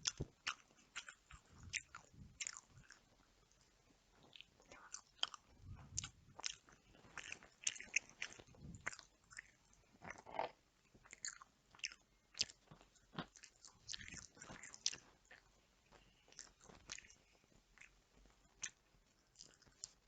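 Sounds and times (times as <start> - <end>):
chewing and biting food: 0.0 - 20.0.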